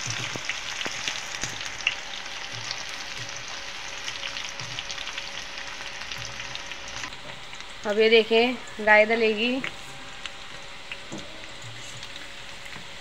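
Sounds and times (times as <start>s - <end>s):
onion and chillies frying in oil: 0.0s - 13.0s.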